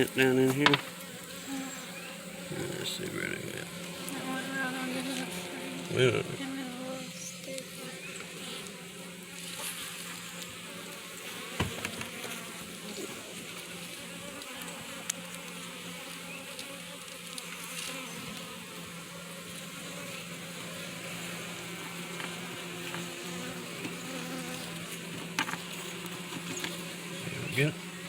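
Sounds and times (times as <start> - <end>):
bees buzzing: 0.0 - 28.0.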